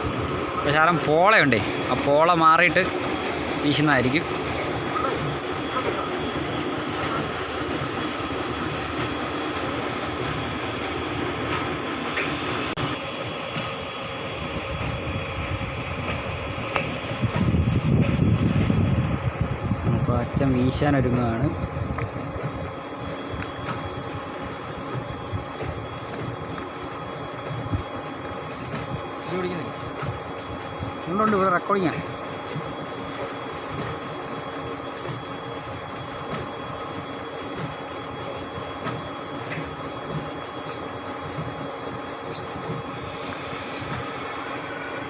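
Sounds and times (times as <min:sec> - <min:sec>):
boat motor droning: 0:00.0 - 0:45.0
water noise: 0:00.0 - 0:45.0.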